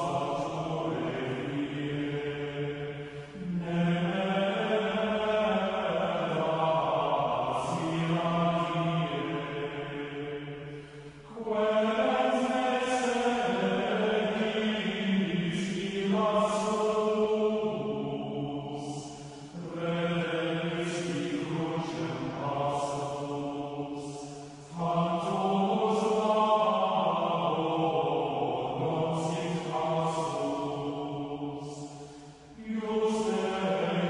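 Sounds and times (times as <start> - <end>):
choral chant: 0.0 - 34.0.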